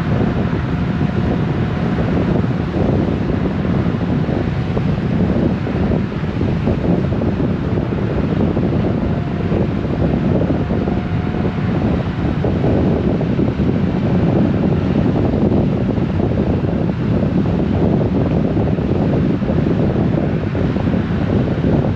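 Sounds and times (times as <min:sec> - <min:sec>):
motorcycle road noise rumble: 0:00.0 - 0:21.9
wind buffeting microphone: 0:00.0 - 0:21.9.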